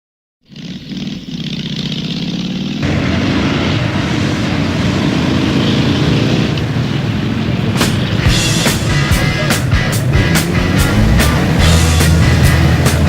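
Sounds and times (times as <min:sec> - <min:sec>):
motocross bike engine: 0:00.4 - 0:13.0.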